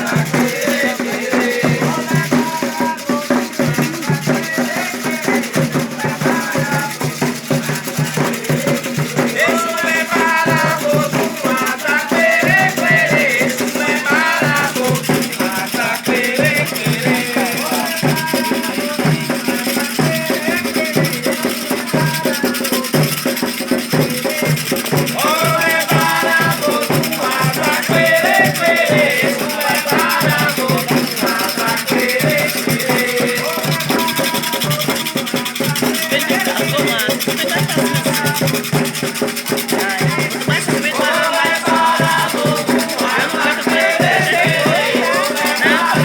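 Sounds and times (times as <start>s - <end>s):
drums beating fast rhythm: 0.0s - 46.0s
shaken rattles: 0.0s - 46.0s
voices singing: 0.0s - 46.0s.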